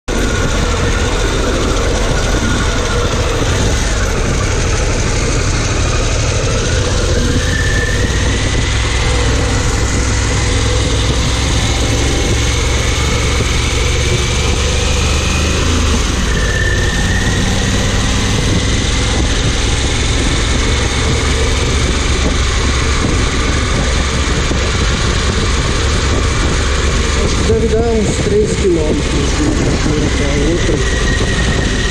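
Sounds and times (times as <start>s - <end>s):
motorcycle engine running: 0.0s - 31.9s
constant rushing noise: 0.1s - 31.9s.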